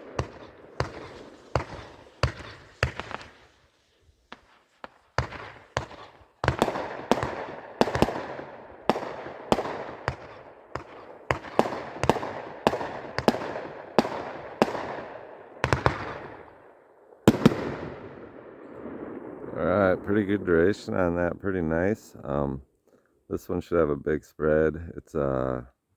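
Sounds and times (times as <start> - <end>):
fireworks cake firing shots: 0.0 - 21.0.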